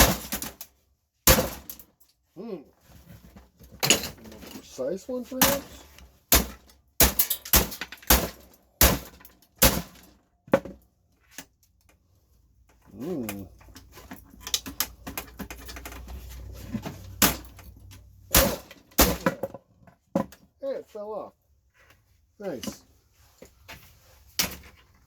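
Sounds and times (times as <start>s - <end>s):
small knocks and rattles: 2.8s - 20.6s, 21.7s - 25.0s.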